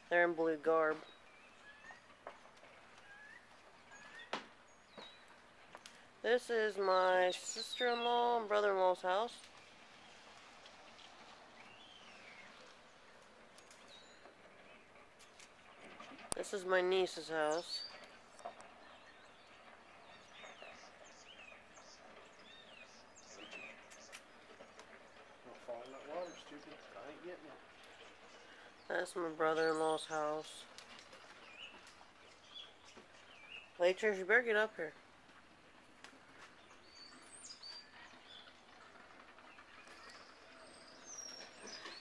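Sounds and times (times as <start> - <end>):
faint birdsong: 0.0 - 42.0
faint outdoor ambience: 0.0 - 42.0.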